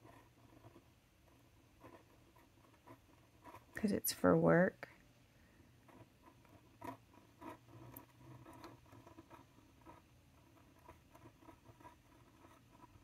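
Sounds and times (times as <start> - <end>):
pen nib scratching on paper: 0.0 - 4.3, 5.8 - 13.0.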